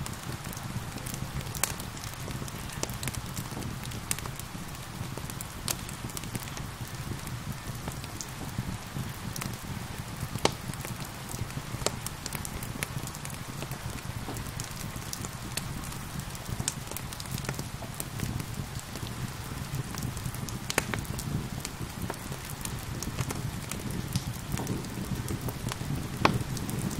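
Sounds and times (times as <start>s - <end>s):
steady rain: 0.0s - 26.9s
wood fire crackling and popping: 0.0s - 26.9s.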